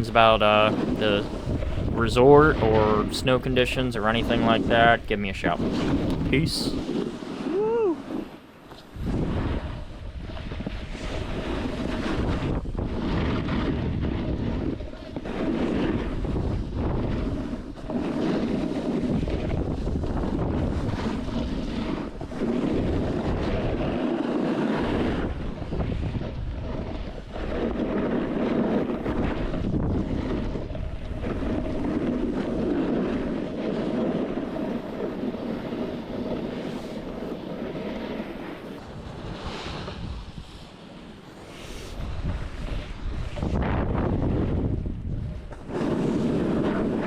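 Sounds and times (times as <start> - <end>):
snowboard edges scraping snow: 0.0 - 47.0
wind buffeting microphone: 0.0 - 47.0.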